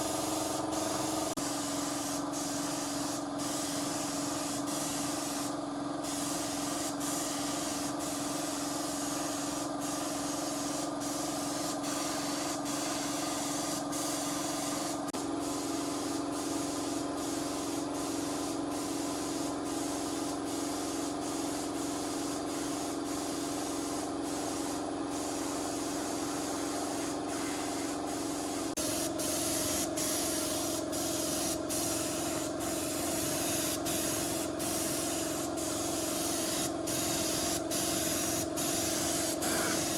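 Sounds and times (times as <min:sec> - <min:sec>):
spray hissing: 0:00.0 - 0:39.9.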